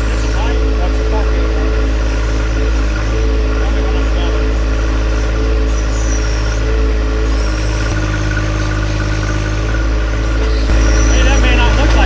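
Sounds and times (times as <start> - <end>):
backhoe digging dirt: 0.0 - 12.0
tractor diesel engine running: 0.0 - 12.0.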